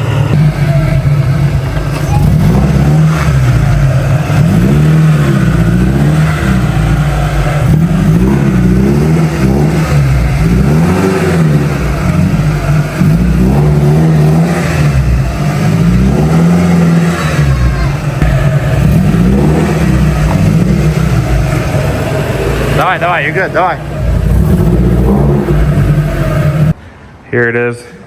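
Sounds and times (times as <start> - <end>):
pickup truck engine revving: 0.0 - 26.8.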